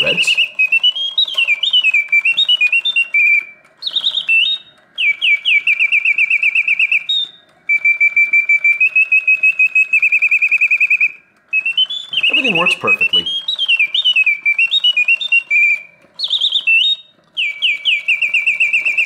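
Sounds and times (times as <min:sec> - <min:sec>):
mechanical birdsong whistle: 0:00.0 - 0:19.0.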